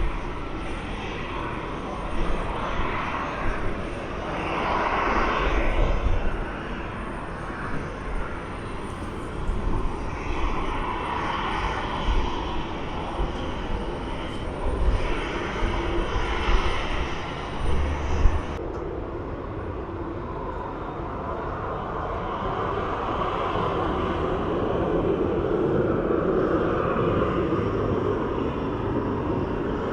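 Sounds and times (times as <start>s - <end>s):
airliner engines running: 0.0s - 29.9s.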